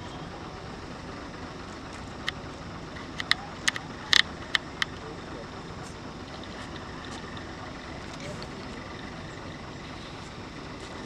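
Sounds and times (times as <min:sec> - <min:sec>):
sharp clicks: 0:01.6 - 0:11.0.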